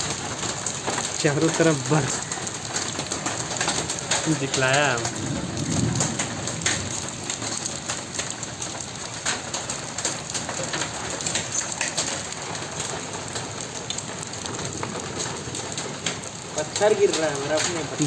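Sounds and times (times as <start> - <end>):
hailstones clicking on concrete: 0.0 - 18.0
heavy rain hiss: 0.0 - 18.0.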